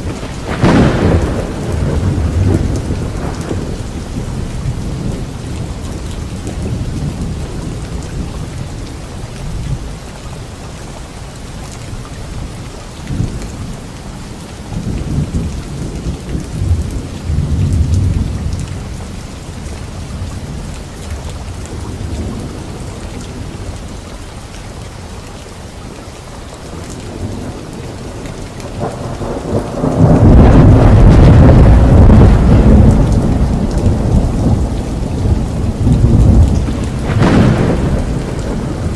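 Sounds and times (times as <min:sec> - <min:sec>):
thunder rumbling: 0:00.0 - 0:09.9, 0:13.1 - 0:24.0, 0:26.7 - 0:38.9
steady rain falling: 0:00.0 - 0:38.9.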